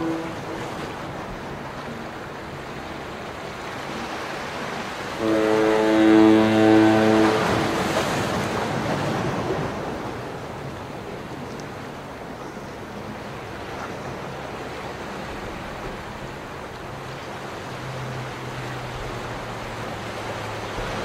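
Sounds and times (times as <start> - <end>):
sea waves washing: 0.0 - 21.0.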